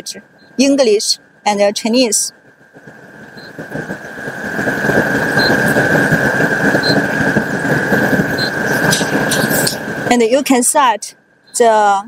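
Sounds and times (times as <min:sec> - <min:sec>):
factory machinery whining: 0:00.0 - 0:11.8.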